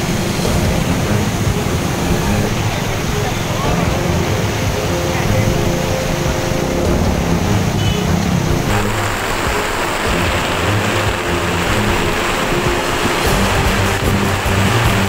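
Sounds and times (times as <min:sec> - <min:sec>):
floodwater rushing: 0:00.0 - 0:15.0
heavy rain: 0:00.0 - 0:15.0.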